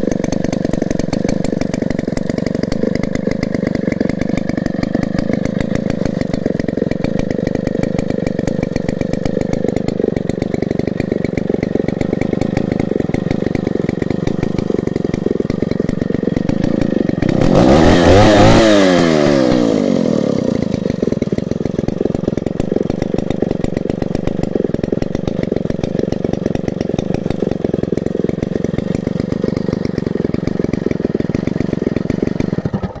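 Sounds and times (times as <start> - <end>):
chainsaw engine idling and revving: 0.0 - 33.0.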